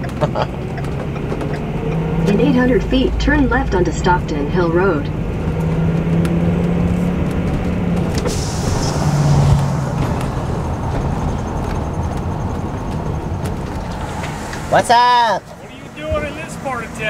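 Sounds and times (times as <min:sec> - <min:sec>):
motorhome engine and road noise: 0:00.0 - 0:17.0.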